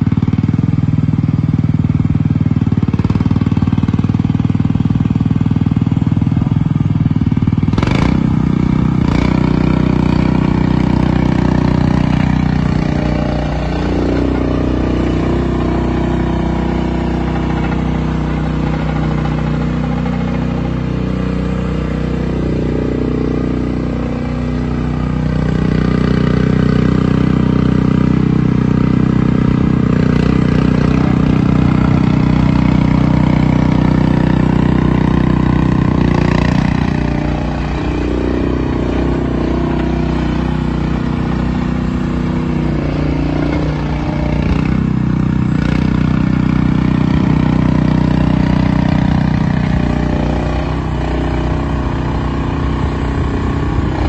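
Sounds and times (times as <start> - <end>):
loader engine running: 0.0 - 54.0.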